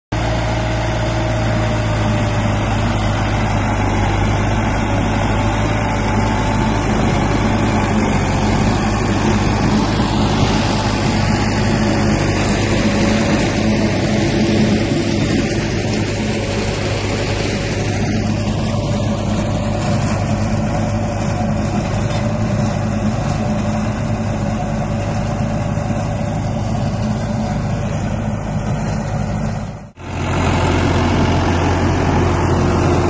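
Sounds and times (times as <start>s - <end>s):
tractor diesel engine under load: 0.1s - 33.0s.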